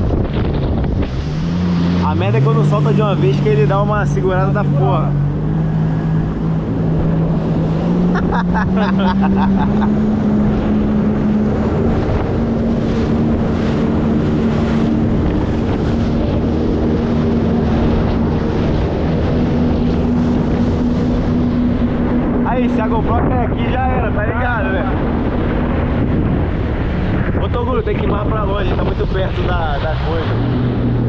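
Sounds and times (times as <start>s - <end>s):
jet ski engine running: 0.0s - 31.0s
water rushing past hull: 0.0s - 31.0s
wind buffeting microphone: 0.0s - 31.0s.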